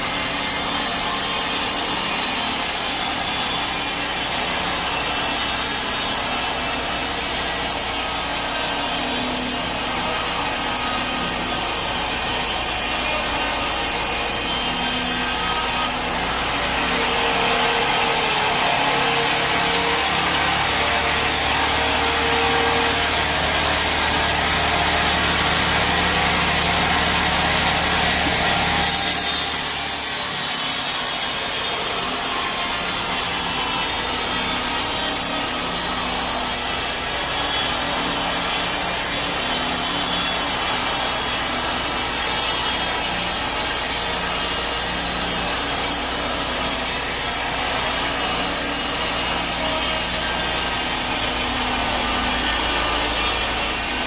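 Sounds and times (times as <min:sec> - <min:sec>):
bandsaw rasping through log: 0:00.0 - 0:54.0.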